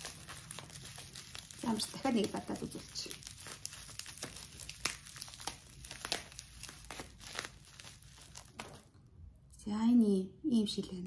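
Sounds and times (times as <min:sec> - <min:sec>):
plastic wrapping crinkling: 0:00.0 - 0:09.1.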